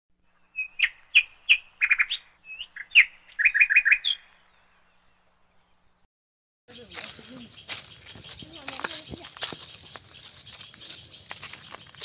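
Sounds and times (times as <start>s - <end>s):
bird chirping: 0.2s - 6.0s, 6.7s - 12.0s.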